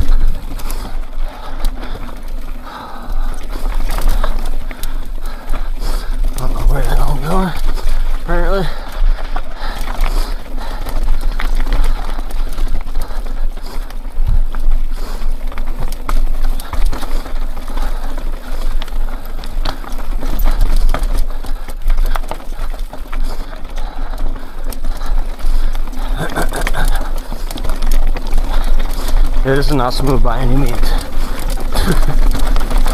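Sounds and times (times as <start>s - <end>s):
mountain bike rattling: 0.0s - 32.9s.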